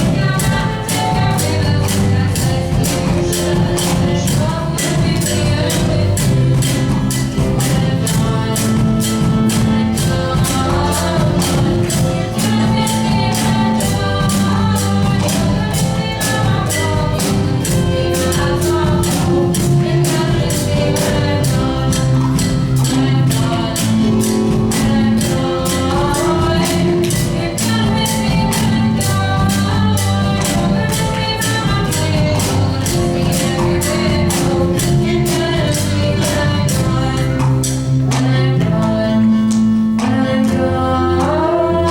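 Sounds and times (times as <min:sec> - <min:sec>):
band music with singing: 0:00.0 - 0:41.9
rapid high percussion beat: 0:00.0 - 0:41.9.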